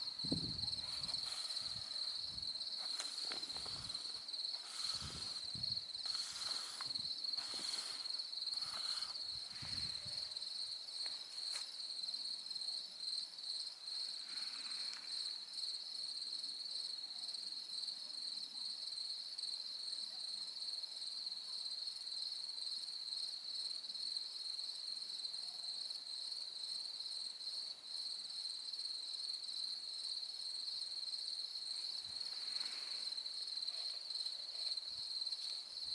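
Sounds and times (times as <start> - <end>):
crickets chirping: 0.0 - 35.9.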